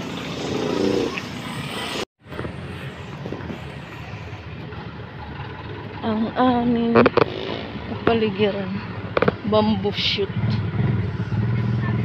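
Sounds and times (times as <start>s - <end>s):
traffic and vehicle engines: 0.0s - 12.0s.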